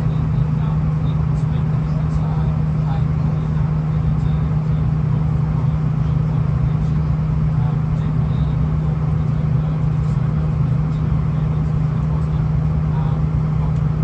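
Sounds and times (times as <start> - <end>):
train engine drone: 0.0 - 14.0.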